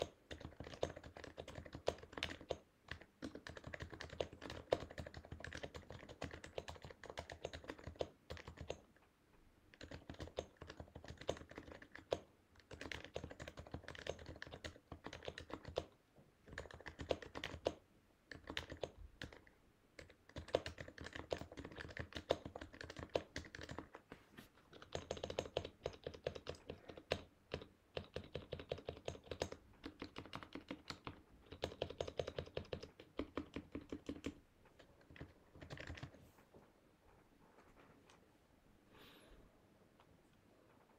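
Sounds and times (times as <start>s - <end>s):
keyboard typing: 0.0s - 9.0s, 9.7s - 36.3s.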